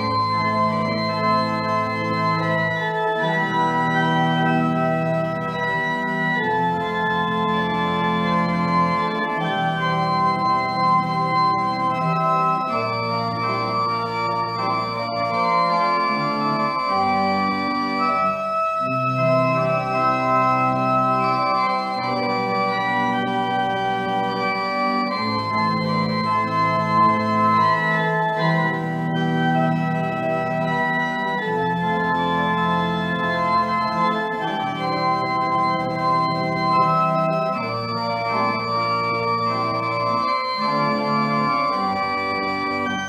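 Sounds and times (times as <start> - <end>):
church organ chords: 0.0 - 43.0.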